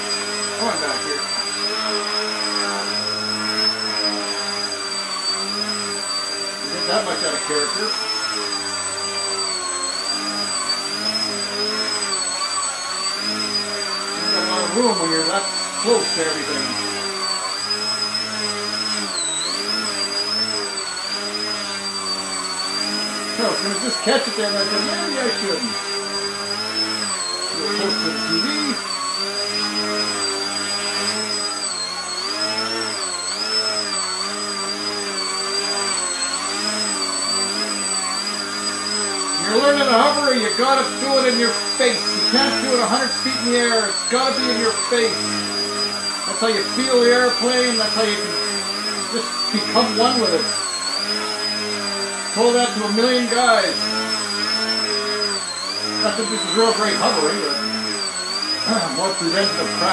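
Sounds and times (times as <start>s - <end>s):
electric propeller motor whine: 0.0s - 59.9s.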